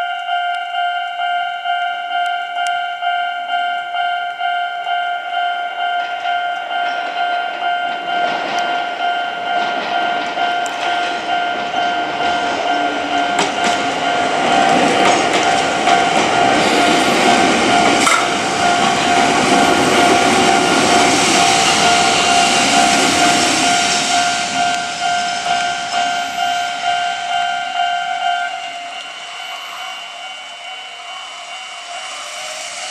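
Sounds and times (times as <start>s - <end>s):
electric train passing: 0.0s - 32.9s
level crossing warning bell: 0.0s - 32.9s.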